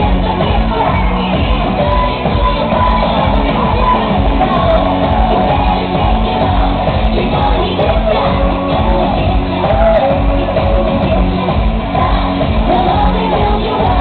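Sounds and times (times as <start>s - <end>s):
loud music with steady beat: 0.0s - 14.0s
person singing: 0.0s - 14.0s.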